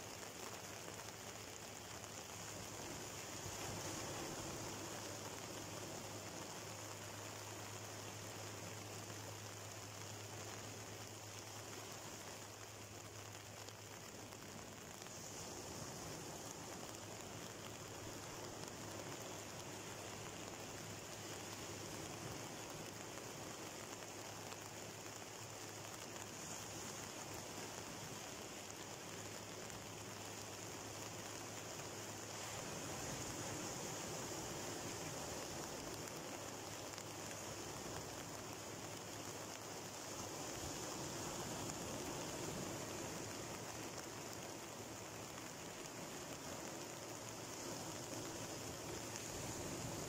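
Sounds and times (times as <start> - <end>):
surf washing over rocks: 0.0 - 50.0.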